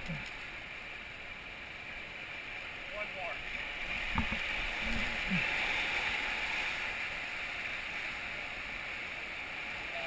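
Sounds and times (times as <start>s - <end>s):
whitewater rapids rushing: 0.0s - 10.0s.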